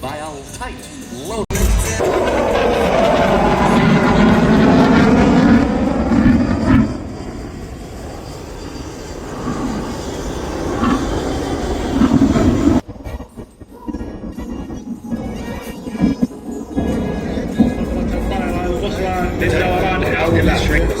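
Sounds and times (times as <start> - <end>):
jet engines in afterburner: 0.0 - 21.0
low jet rumble: 1.5 - 21.0.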